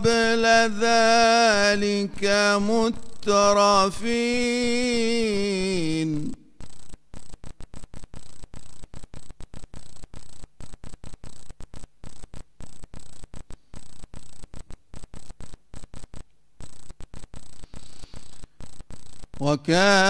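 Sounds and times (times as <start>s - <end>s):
stuttering microphone hiss and hum: 0.0s - 20.0s.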